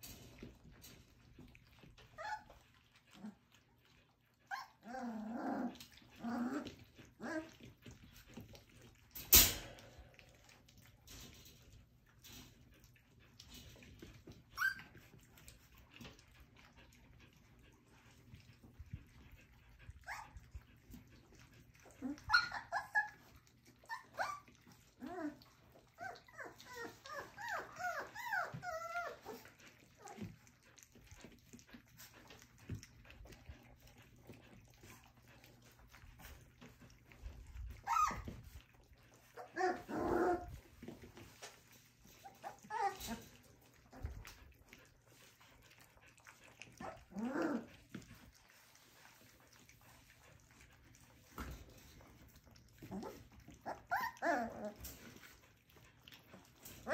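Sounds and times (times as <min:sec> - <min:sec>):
puppies whimpering and squeaking: 0:00.0 - 0:56.9.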